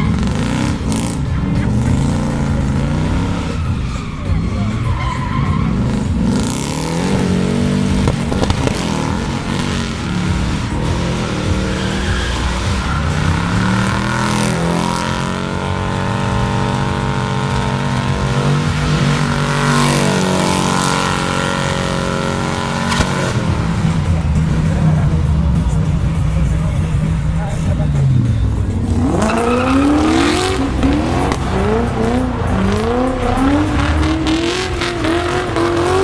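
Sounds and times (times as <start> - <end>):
car engine revving hard: 0.0 - 36.0
tyres skidding: 0.0 - 36.0.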